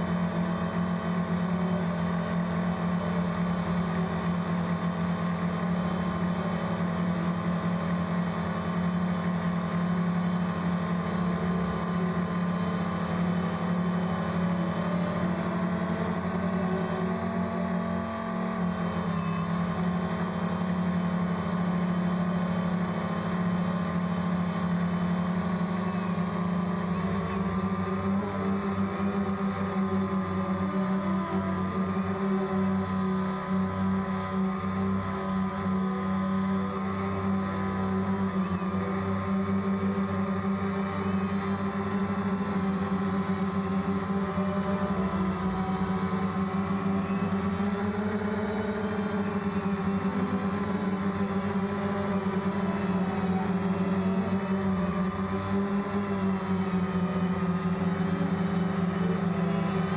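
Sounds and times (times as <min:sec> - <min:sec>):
drone motor and propeller buzz: 0:00.0 - 0:59.9.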